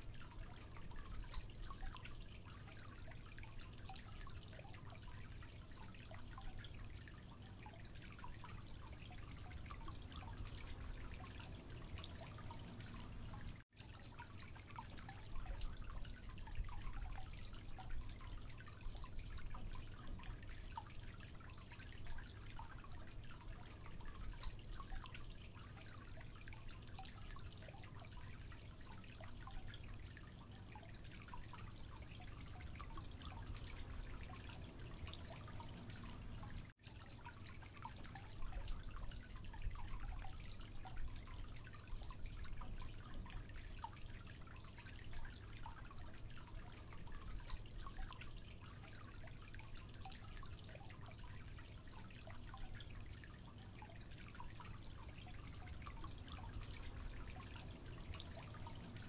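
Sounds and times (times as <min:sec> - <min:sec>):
faint water dripping: 0:00.0 - 0:59.0
low steady hum: 0:00.0 - 0:59.0.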